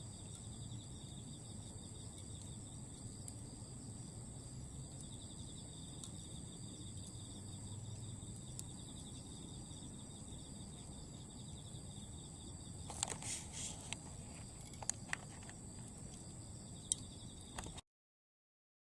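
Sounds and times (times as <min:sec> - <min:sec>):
charcoal embers crackling: 0:00.0 - 0:17.8
insects trilling: 0:00.0 - 0:17.8.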